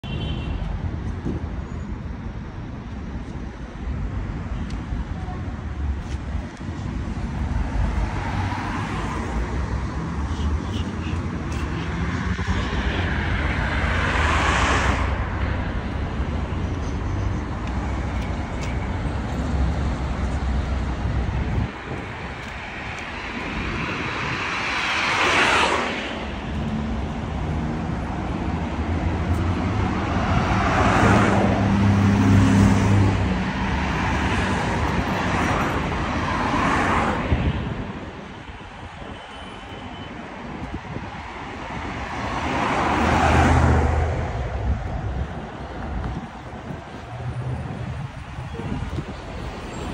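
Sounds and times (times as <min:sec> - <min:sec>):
cars passing on wet street: 0:00.0 - 0:49.9.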